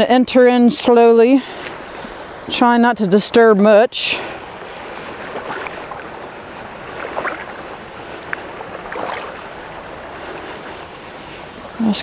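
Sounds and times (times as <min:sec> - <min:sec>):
outdoor background hiss: 0:00.0 - 0:12.0
wading through water: 0:01.0 - 0:12.0.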